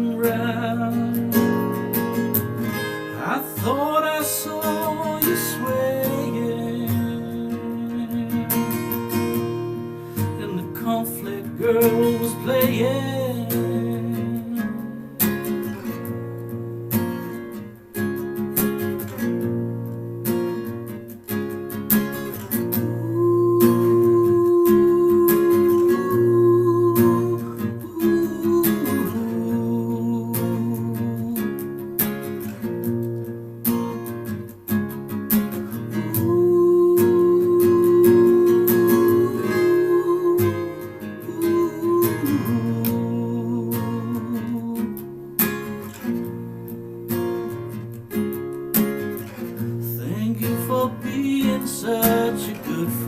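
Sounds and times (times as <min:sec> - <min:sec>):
acoustic guitar strumming: 0:00.0 - 0:53.0.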